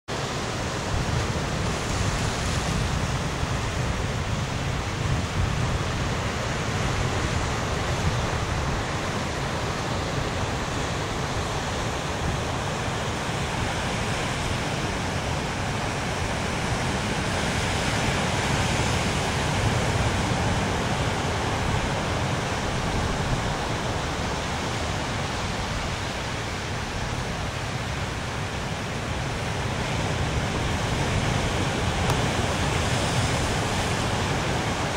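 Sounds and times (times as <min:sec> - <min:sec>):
wind: 0:00.0 - 0:34.9
sea surf on rocky shore: 0:00.1 - 0:34.9.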